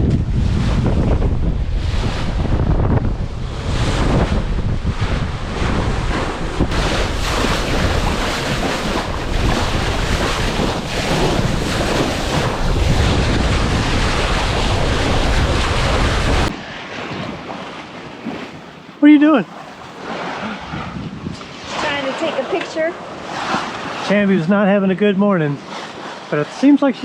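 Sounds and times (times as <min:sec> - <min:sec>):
wind buffeting microphone: 0:00.0 - 0:19.0, 0:19.6 - 0:24.0
waves rushing: 0:00.0 - 0:27.0.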